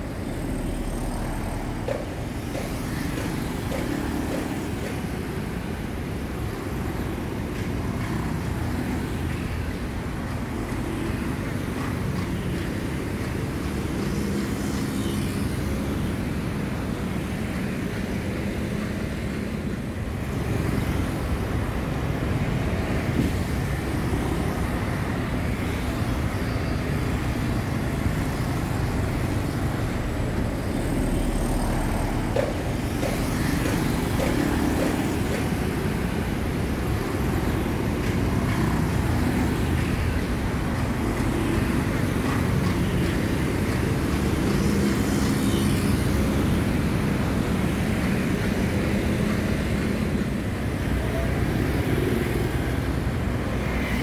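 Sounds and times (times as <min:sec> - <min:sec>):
motorbikes and scooters passing: 0:00.0 - 0:54.0.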